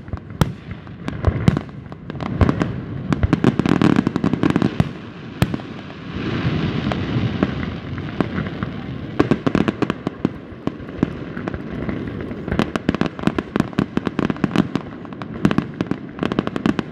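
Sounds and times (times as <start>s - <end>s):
fireworks crackling pops and bangs: 0.0s - 16.9s.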